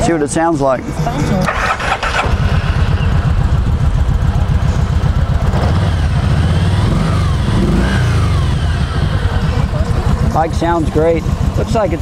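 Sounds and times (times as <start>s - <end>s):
motorcycle engine idling: 0.8s - 12.0s.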